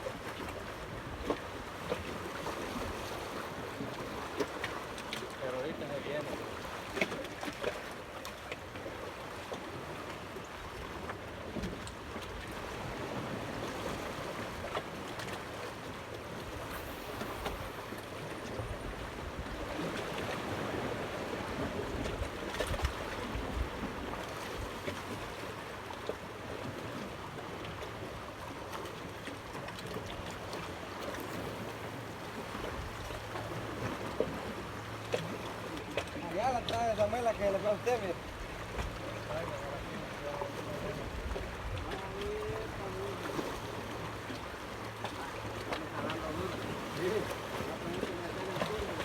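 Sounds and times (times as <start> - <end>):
water lapping against a boat: 0.0 - 49.0.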